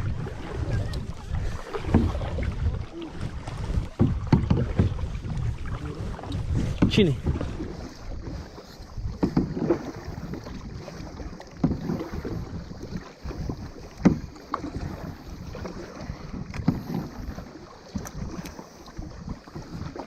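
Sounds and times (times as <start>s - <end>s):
canoe paddles splashing: 0.0s - 20.0s
wind on microphone: 0.0s - 20.0s.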